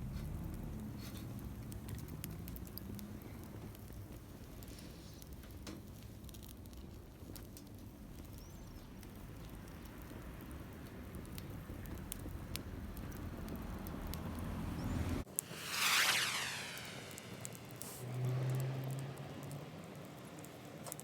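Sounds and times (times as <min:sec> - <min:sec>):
light clicks and patter: 0:00.0 - 0:14.5, 0:18.4 - 0:21.0.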